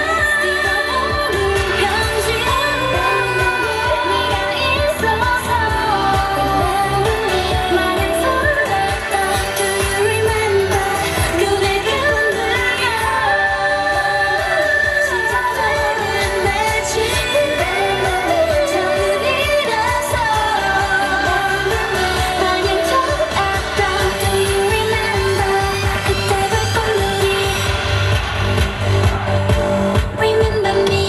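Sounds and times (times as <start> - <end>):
pop backing track with steady beat: 0.0 - 31.0
women singing pop dance song: 0.0 - 31.0.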